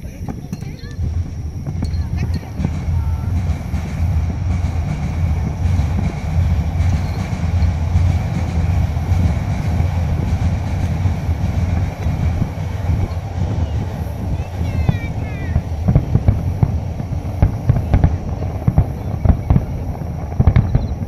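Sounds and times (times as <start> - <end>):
train rumbling over bridge: 0.0 - 21.0.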